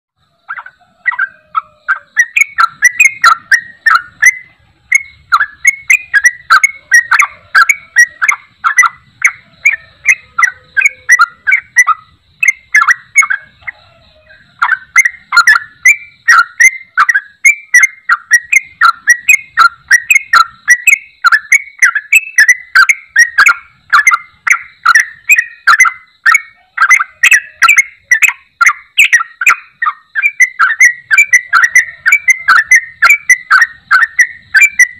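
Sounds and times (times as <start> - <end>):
bird chattering call: 0.2 - 34.9.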